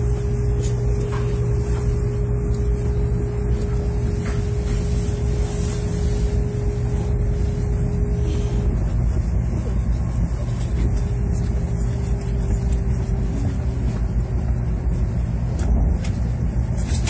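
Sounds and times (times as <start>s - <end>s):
train running heard from cabin: 0.0s - 17.0s.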